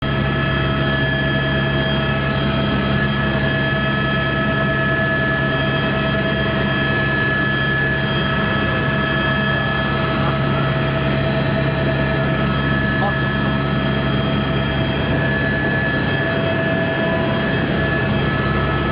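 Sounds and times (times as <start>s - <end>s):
helicopter engine and rotor: 0.0s - 18.9s.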